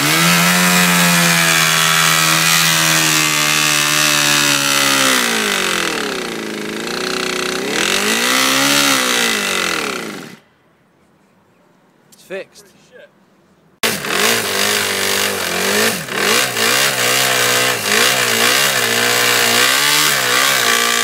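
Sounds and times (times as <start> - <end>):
motorcycle engine revving: 0.0 - 10.4, 13.8 - 21.0.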